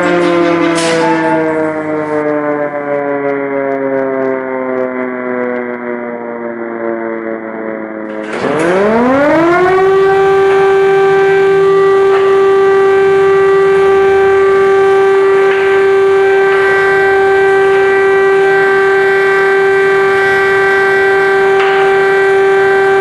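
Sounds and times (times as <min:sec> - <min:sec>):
air-raid siren steady tone: 0:00.0 - 0:23.0.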